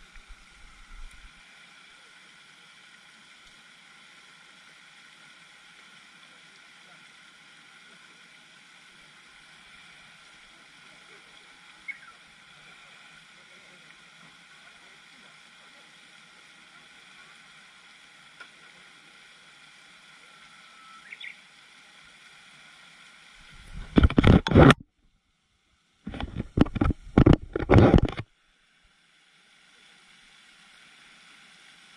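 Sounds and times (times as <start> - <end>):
faint outdoor background noise: 0.0 - 31.9.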